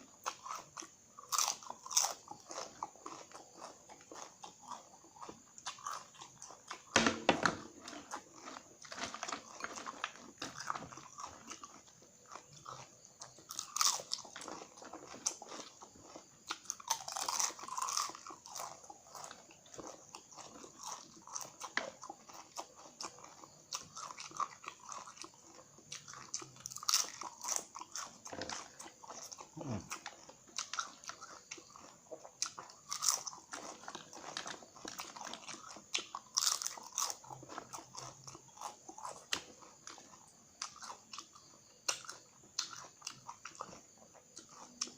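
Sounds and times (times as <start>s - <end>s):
crunching and chewing chips: 0.0s - 44.9s.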